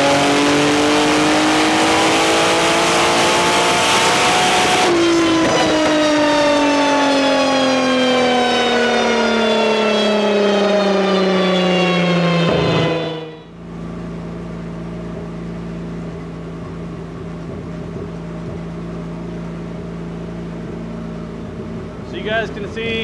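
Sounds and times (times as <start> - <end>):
car engine revving and coasting down: 0.0 - 23.0.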